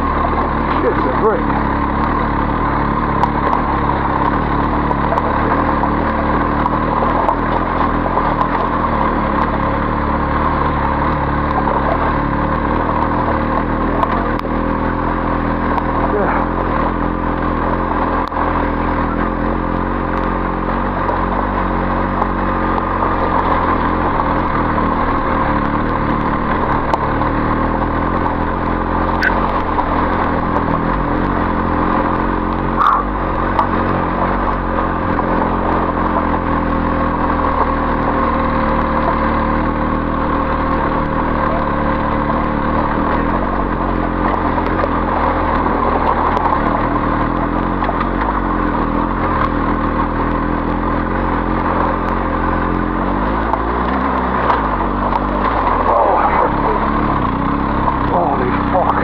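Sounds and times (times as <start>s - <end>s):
motorcycle engine running: 0.0s - 59.0s
tyres over loose gravel: 0.0s - 59.0s
sharp ticks: 0.1s - 59.0s.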